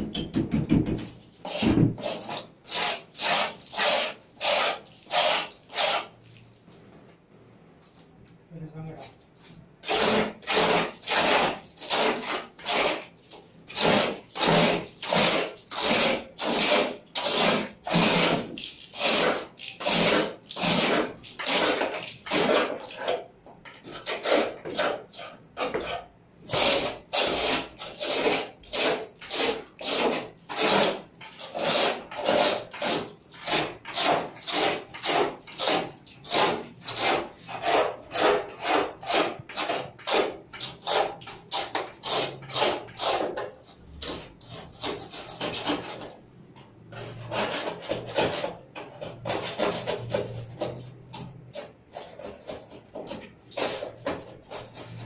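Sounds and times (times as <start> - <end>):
abrasive tool scraping: 1.0 - 6.2, 8.8 - 46.2, 46.9 - 55.0.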